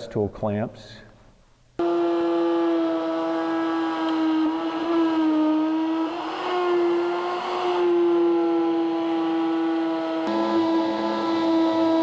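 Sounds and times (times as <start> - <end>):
router cutting plywood: 1.8 - 12.0.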